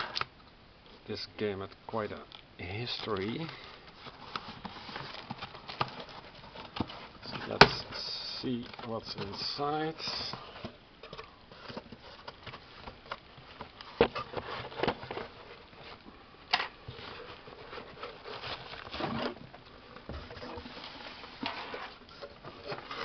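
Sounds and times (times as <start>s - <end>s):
cardboard rustling and scraping: 3.0s - 23.0s.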